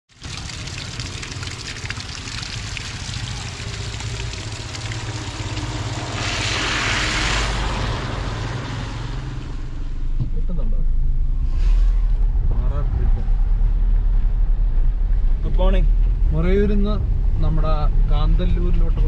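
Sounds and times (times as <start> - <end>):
road and wind noise: 0.1 - 19.0
car engine hum: 0.3 - 19.0.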